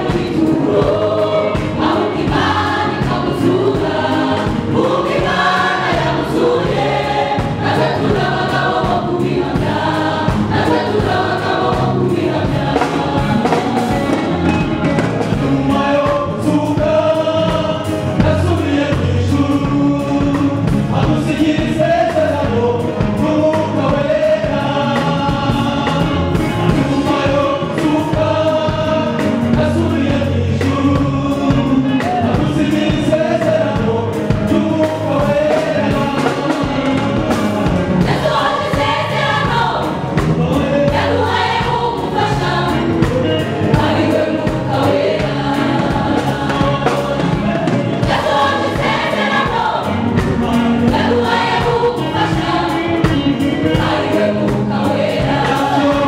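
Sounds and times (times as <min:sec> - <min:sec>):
choir singing gospel: 0:00.0 - 0:56.0.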